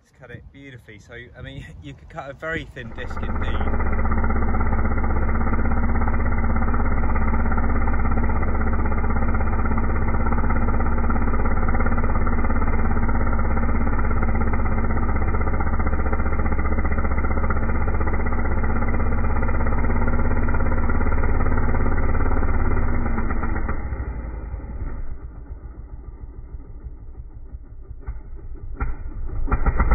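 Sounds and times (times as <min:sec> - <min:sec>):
chainsaw cutting log at full throttle: 0:02.5 - 0:26.9, 0:28.0 - 0:29.9.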